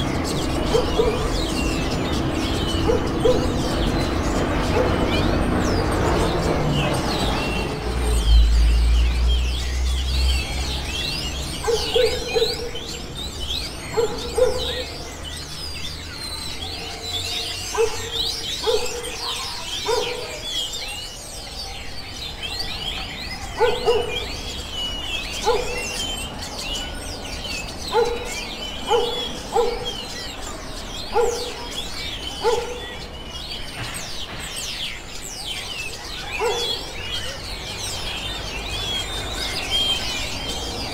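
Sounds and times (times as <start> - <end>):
birds chirping and twittering: 0.0 - 40.9.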